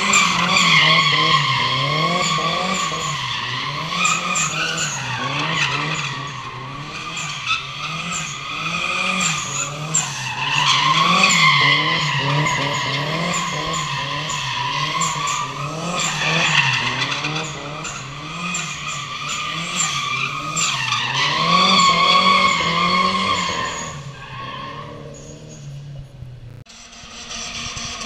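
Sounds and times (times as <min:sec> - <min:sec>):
tyres squealing: 0:00.0 - 0:25.8
car engine revving: 0:00.0 - 0:28.0.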